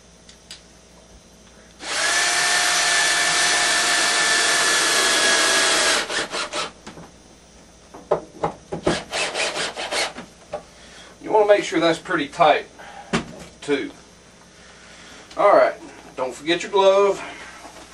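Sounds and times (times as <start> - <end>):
loud steady whirring: 0.0 - 17.6.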